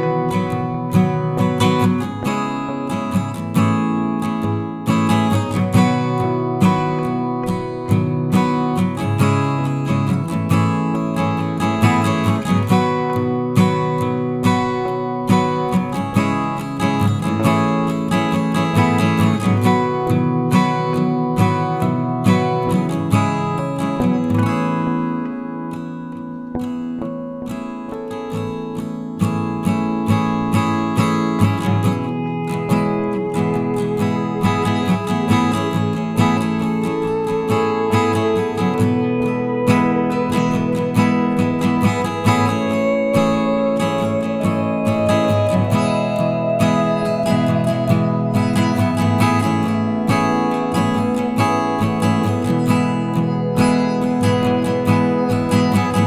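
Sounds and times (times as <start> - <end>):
acoustic guitar strummed and plucked: 0.0 - 56.0.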